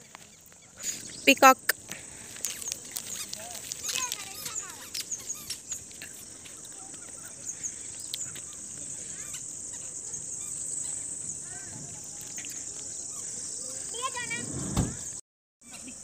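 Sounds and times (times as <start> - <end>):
small birds chirping and whistling: 0.0 - 15.1.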